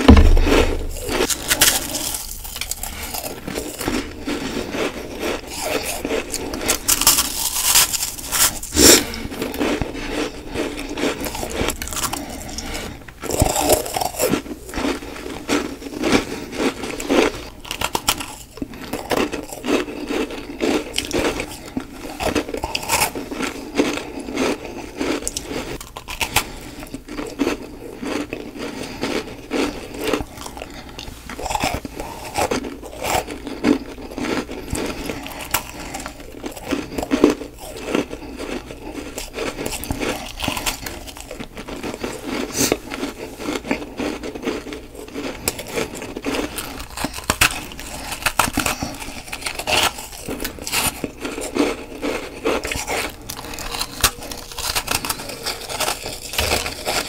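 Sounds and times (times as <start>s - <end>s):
person crunching frost: 0.0s - 57.0s.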